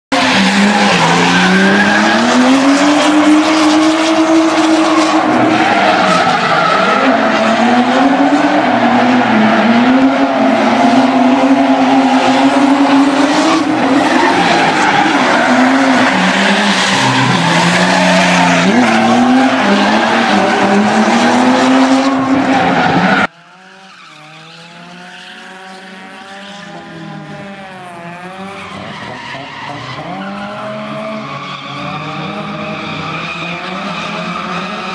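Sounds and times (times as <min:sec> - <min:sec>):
car engine revving hard: 0:00.1 - 0:34.9
tyres skidding: 0:00.1 - 0:34.9.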